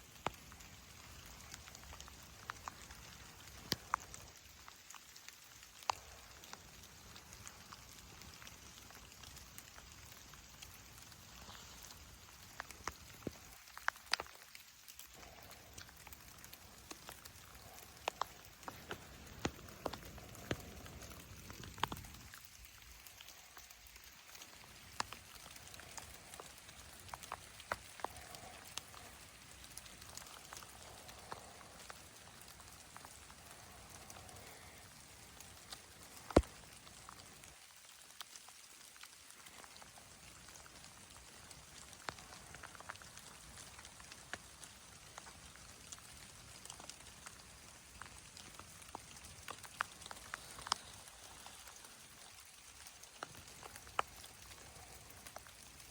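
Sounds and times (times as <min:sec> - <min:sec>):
raindrops ticking: 0:00.0 - 0:55.9
steady hiss of rain: 0:00.0 - 0:55.9.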